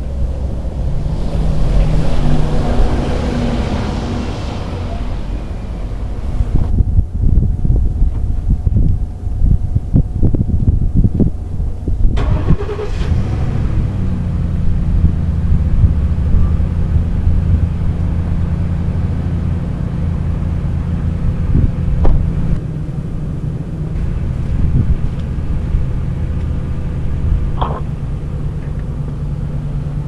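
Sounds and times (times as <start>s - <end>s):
low buffeting noise: 0.0s - 30.0s
vehicle engine starting and idling: 0.0s - 30.0s.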